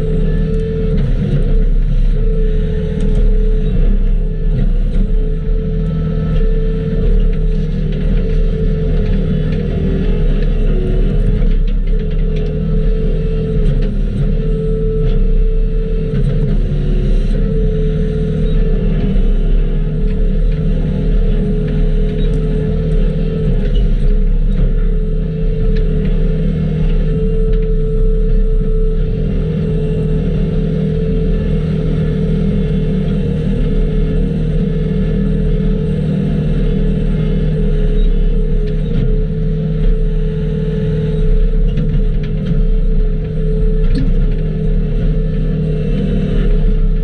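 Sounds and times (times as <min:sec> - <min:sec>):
skid steer engine rumbling: 0:00.0 - 0:47.0
wavering whine: 0:00.0 - 0:47.0.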